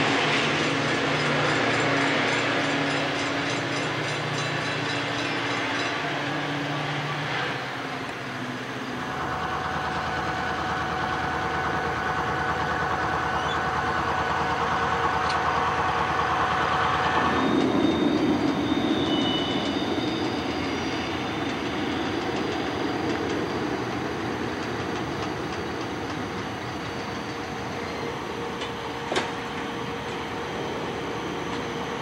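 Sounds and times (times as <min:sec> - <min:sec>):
diesel engine running: 0:00.0 - 0:32.0
rail cars rolling by: 0:00.0 - 0:32.0.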